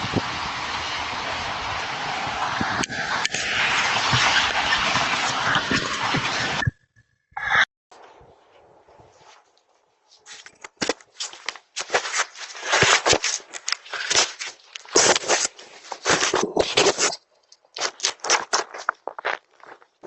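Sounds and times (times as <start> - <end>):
scraping and crackling on microphone: 2.5 - 20.0.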